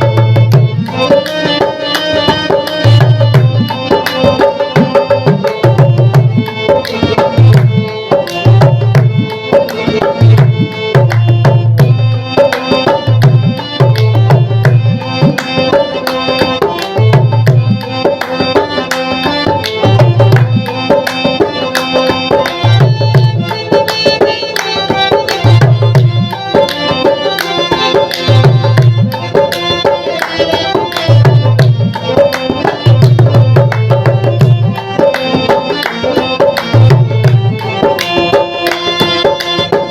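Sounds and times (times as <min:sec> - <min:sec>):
music with hand drum percussion: 0:00.0 - 0:39.9.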